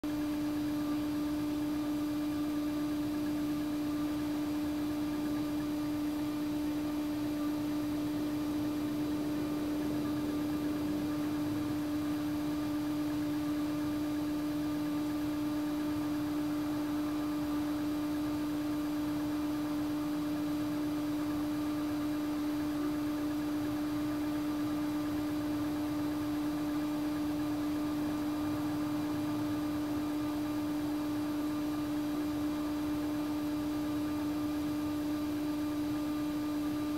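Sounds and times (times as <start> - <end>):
steady hum: 0.0 - 36.9.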